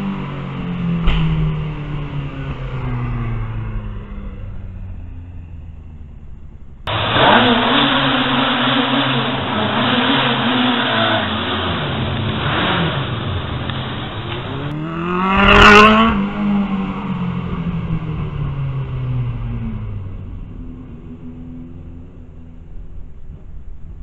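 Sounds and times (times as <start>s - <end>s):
motorcycle passing by: 0.0s - 23.0s
motorcycle accelerating in tunnel: 0.0s - 24.0s.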